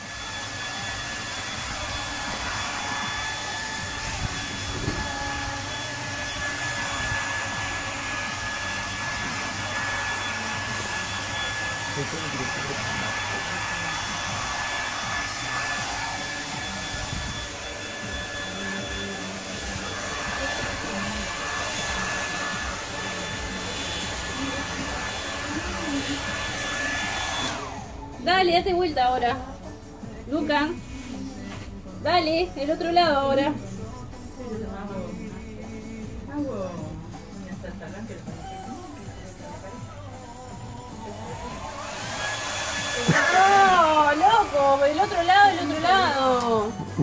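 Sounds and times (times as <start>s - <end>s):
hair dryer blowing: 0.0s - 33.9s, 34.5s - 47.0s.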